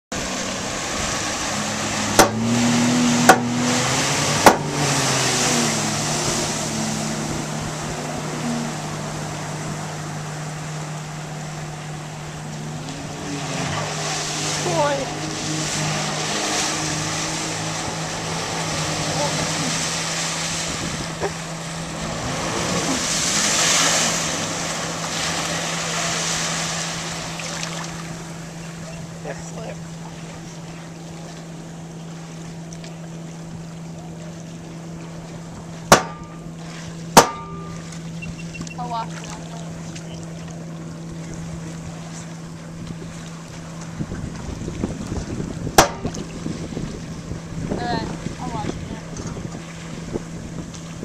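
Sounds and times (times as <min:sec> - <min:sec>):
personal watercraft engine: 0:00.1 - 0:51.0.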